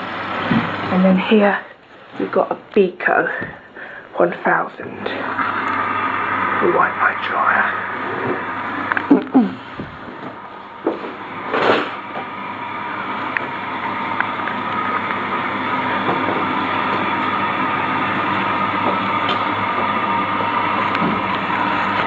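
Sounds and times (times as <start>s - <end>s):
tumble dryer whirring hum: 0.0s - 22.0s.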